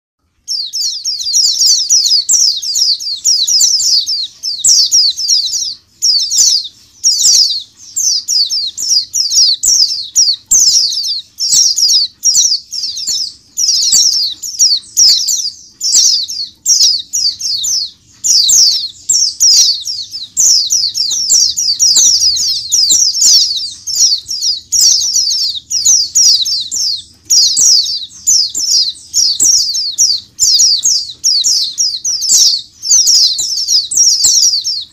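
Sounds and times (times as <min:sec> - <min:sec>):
flock of birds chirping: 0:00.2 - 0:34.9
birds fluttering on perches: 0:00.5 - 0:34.9.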